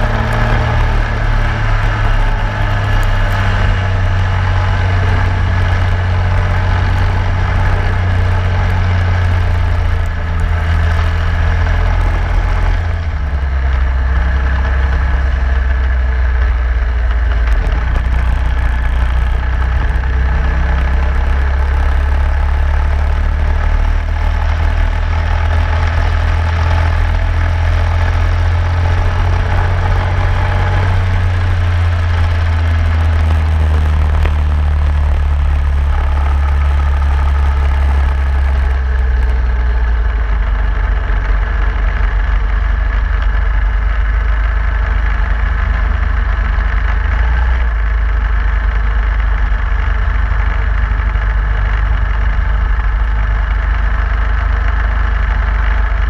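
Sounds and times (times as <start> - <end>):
wind noise: 0.0 - 44.9
kart engine running: 0.0 - 56.0.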